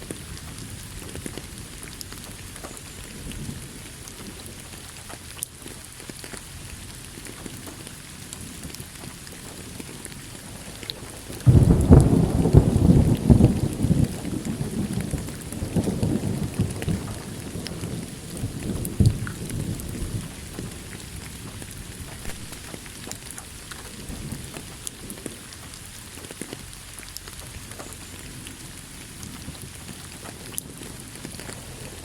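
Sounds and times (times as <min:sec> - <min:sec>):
thunder rumbling: 0:00.0 - 0:06.0, 0:06.6 - 0:32.0
steady rain: 0:00.0 - 0:32.0.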